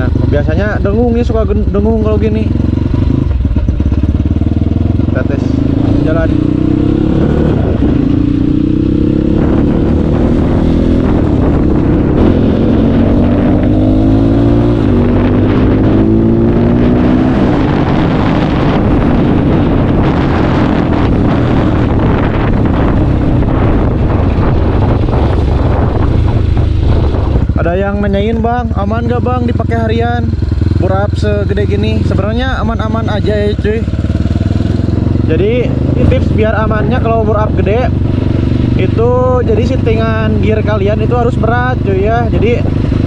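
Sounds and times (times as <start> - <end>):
motorcycle engine accelerating: 0.0 - 43.0
wind and road noise: 0.0 - 43.0.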